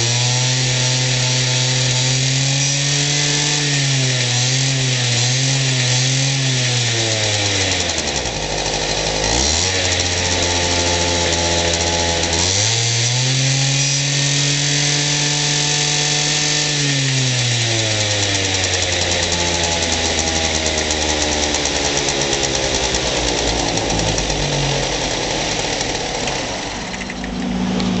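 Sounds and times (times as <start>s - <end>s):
scooter engine revving: 0.0s - 28.0s.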